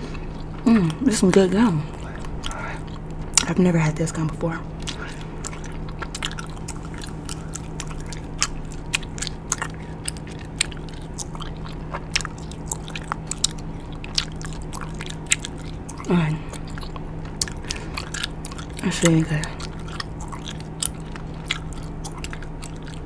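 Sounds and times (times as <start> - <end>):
gum chewing and smacking: 0.0 - 23.0.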